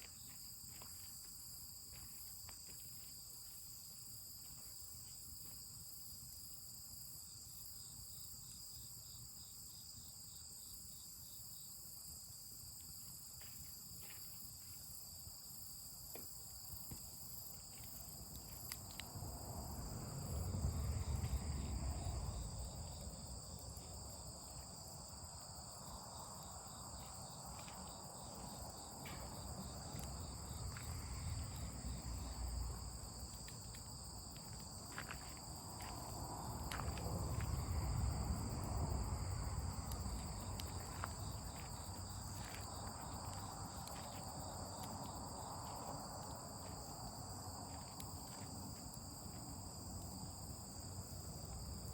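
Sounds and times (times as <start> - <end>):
night insects chirring: 0.0 - 51.9.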